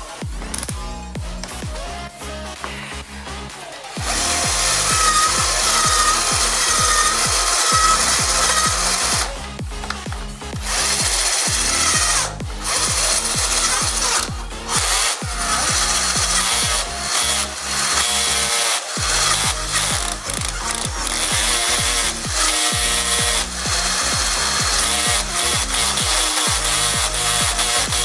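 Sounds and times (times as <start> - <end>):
cordless drill running: 0.0 - 1.9, 3.9 - 28.0
background music with steady beat: 0.0 - 28.0.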